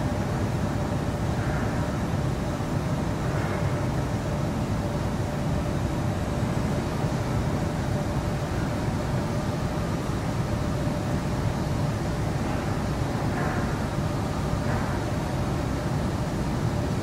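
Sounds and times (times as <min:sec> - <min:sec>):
factory machinery hum: 0:00.0 - 0:17.0.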